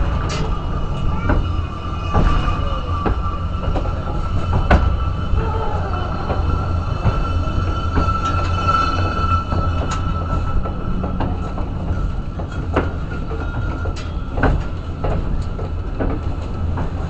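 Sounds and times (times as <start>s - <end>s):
thin steady whine: 0.0s - 14.2s
railway car rumbling up track: 0.0s - 17.0s.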